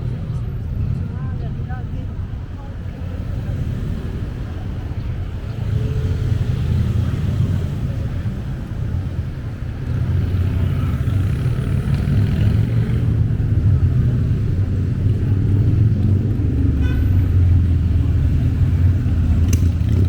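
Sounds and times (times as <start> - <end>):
traffic rumbling: 0.0 - 20.0.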